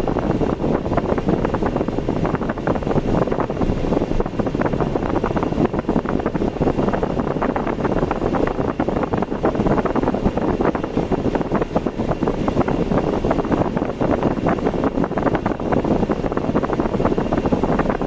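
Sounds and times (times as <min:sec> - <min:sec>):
vehicle road noise: 0:00.0 - 0:18.0
wind buffeting microphone: 0:00.0 - 0:18.0.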